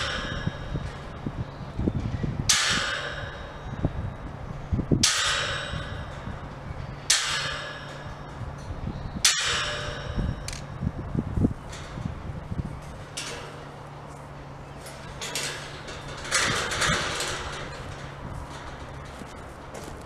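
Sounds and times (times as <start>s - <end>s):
wind rumble on microphone: 0.0s - 20.0s
wire mesh ringing: 0.0s - 20.0s.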